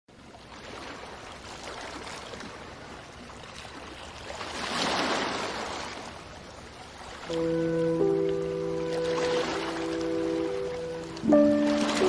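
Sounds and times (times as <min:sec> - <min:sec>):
ocean waves washing on beach: 0:00.1 - 0:12.0.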